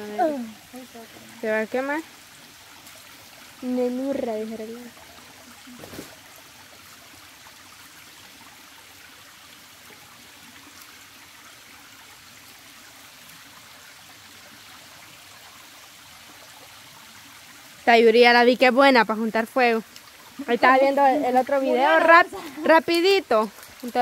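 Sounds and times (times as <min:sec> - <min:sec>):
stream trickling: 0:00.0 - 0:24.0.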